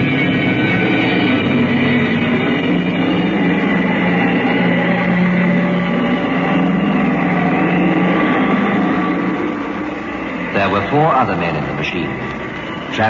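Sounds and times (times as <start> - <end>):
electronic music drone: 0.0 - 13.0.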